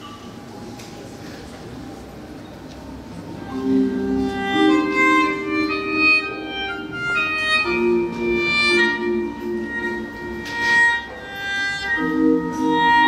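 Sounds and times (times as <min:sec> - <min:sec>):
small ensemble sustained notes: 0:00.0 - 0:13.0.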